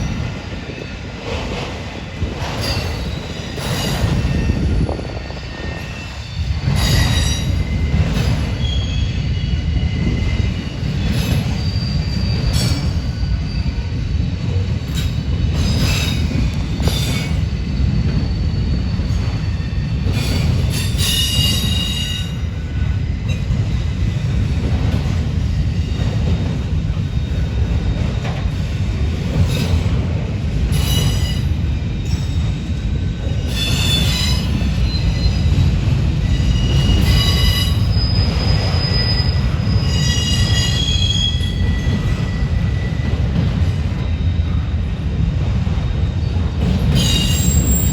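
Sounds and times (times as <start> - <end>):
train wheel squeals: 0.0 - 47.9
train wheels rumbling on rails: 0.0 - 47.9.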